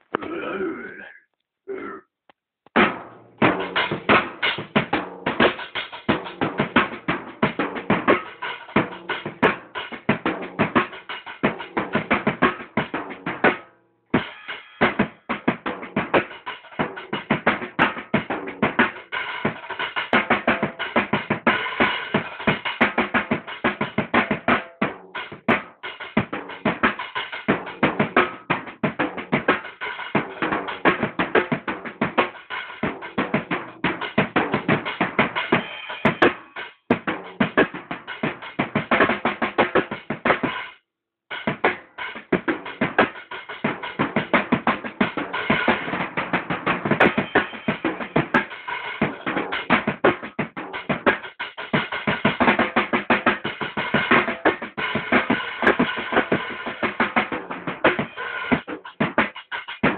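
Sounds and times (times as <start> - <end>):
rapid drumming: 2.7 - 59.9.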